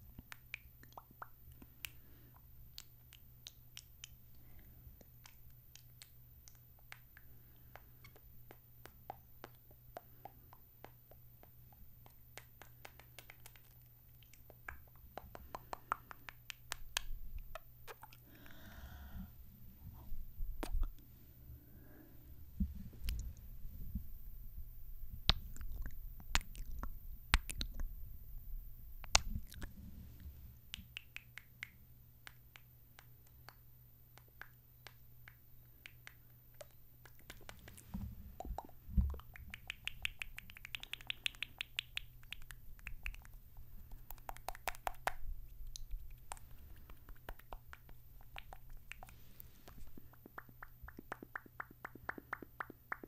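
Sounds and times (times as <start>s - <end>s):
kissing and lip smacks: 0.1s - 4.4s, 5.0s - 18.2s, 20.6s - 21.0s, 25.3s - 27.9s, 29.0s - 29.7s, 30.7s - 53.0s.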